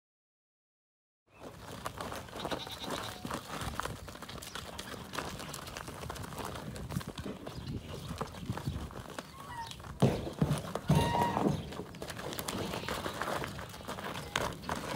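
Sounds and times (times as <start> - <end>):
hooves scuffing and stamping: 1.3 - 14.9.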